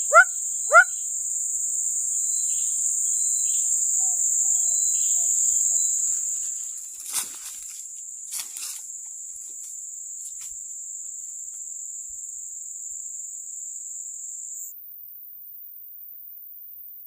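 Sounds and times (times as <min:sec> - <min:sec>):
insects droning: 0:00.0 - 0:16.4.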